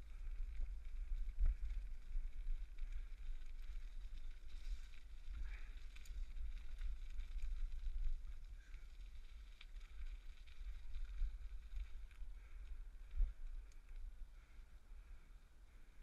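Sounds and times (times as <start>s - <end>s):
small clicks and rattles: 0.0s - 14.2s
wind rumble on microphone: 0.0s - 16.0s.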